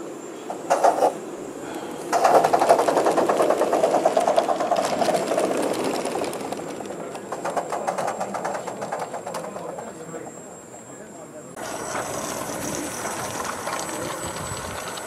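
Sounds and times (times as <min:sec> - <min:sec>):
model steam locomotive clatter: 0:00.4 - 0:10.8, 0:11.5 - 0:15.0.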